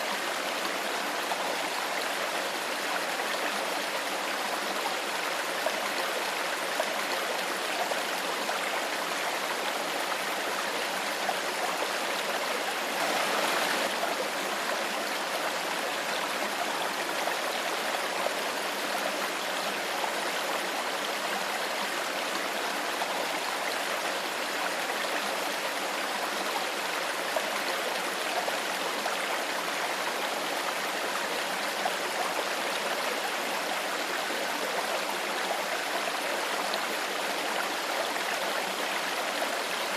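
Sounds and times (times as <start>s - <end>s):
stream babbling over stones: 0.1s - 39.9s.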